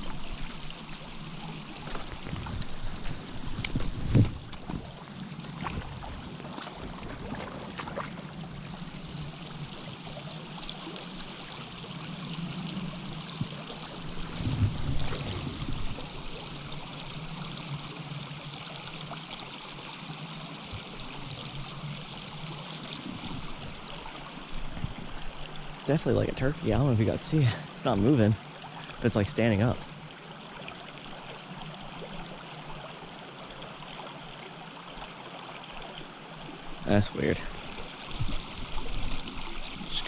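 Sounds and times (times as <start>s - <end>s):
mountain stream running: 0.0s - 40.0s.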